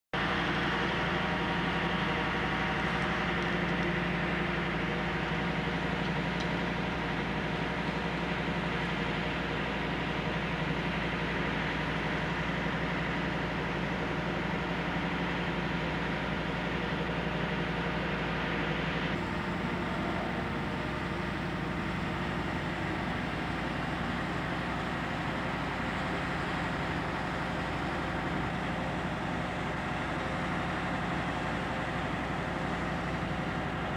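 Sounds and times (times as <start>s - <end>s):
diesel engine idling: 0.2s - 33.9s.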